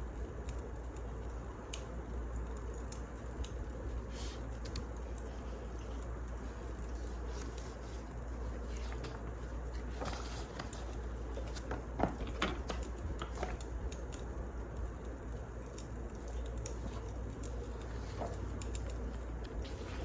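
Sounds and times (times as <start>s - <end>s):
wood fire crackling and popping: 0.1s - 20.0s.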